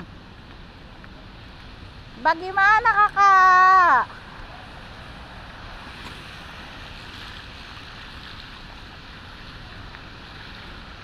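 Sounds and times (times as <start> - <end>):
traffic and water hiss: 0.0 - 11.0.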